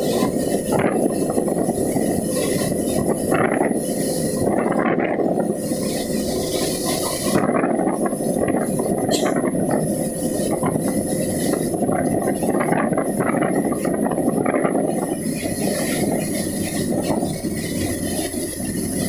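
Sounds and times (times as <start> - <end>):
heavy rain: 0.0 - 19.0
strong wind: 0.0 - 19.0
truck travelling: 0.0 - 19.0.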